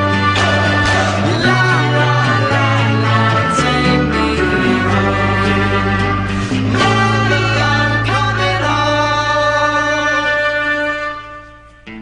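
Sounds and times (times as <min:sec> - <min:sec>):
instrumental music with bass line: 0:00.0 - 0:12.0.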